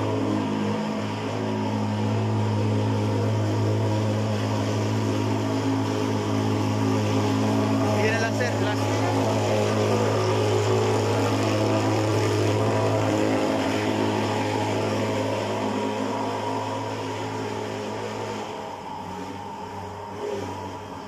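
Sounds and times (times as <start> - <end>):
fogging machine engine drone: 0.0 - 21.0.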